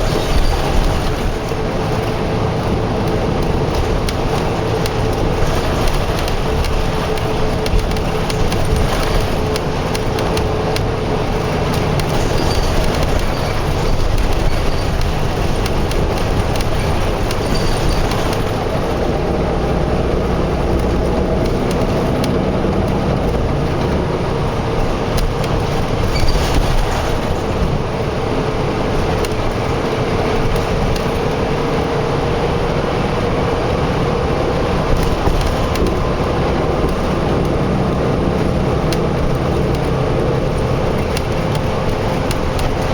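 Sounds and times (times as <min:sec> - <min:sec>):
highway traffic noise: 0:00.0 - 0:42.9.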